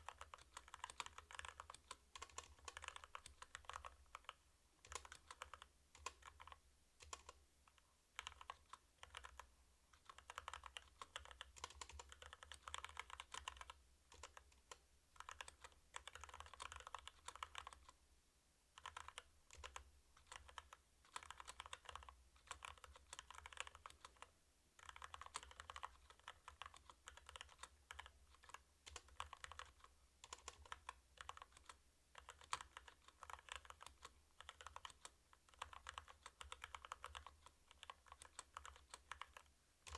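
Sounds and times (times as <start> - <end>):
mechanical keyboard typing: 0.0 - 18.0, 18.8 - 39.9.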